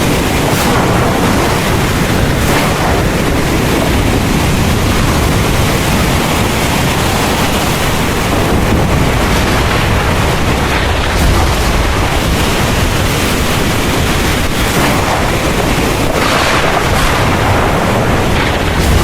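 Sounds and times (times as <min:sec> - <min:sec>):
heavy rain pouring: 0:00.0 - 0:19.0
thunder rumbling: 0:00.0 - 0:19.0.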